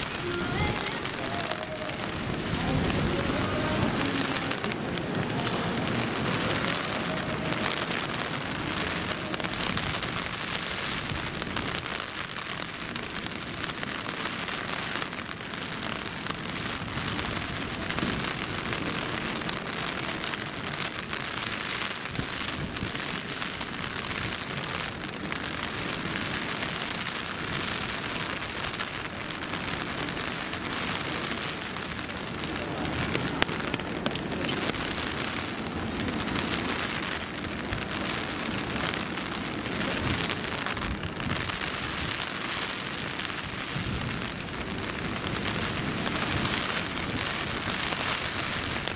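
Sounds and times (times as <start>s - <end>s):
rain splashing on surfaces: 0.0s - 48.9s.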